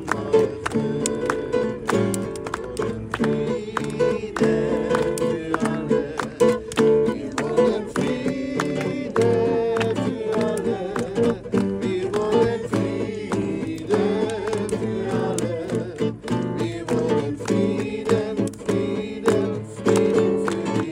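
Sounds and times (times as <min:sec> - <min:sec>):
strummed acoustic guitar: 0:00.0 - 0:20.9
voices singing worship song: 0:00.0 - 0:20.9.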